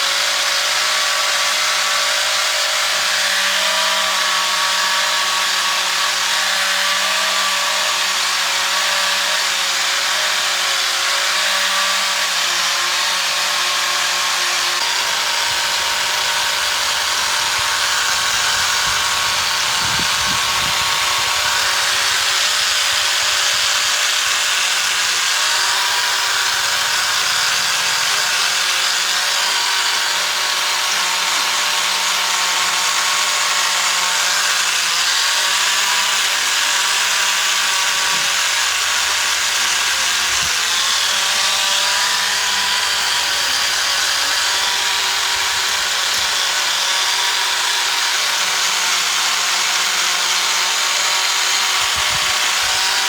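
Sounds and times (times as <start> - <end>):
electric power tool running: 0.0 - 53.0.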